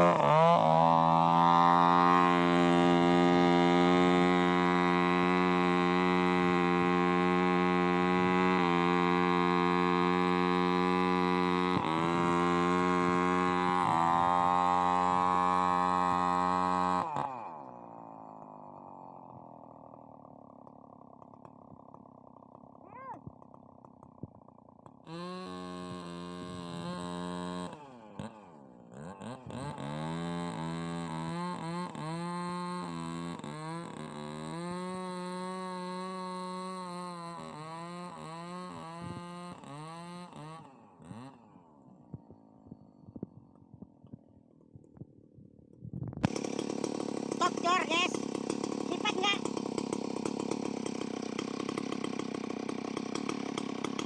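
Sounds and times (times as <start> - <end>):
two-stroke chainsaw engine running: 0.0 - 54.0.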